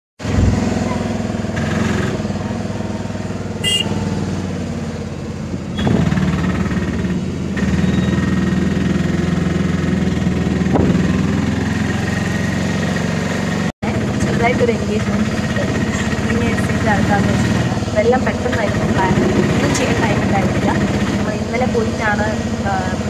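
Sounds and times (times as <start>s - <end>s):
auto-rickshaw engine droning: 0.2s - 23.0s.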